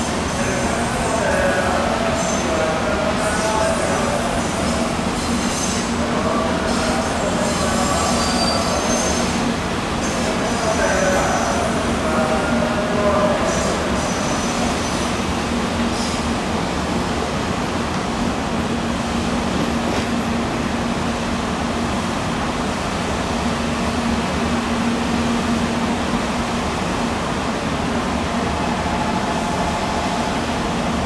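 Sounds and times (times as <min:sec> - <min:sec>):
train equipment humming: 0:00.0 - 0:31.0.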